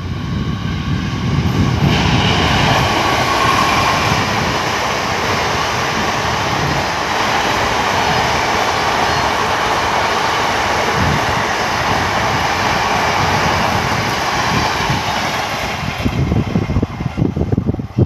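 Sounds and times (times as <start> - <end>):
train passing at speed: 0.0 - 18.0.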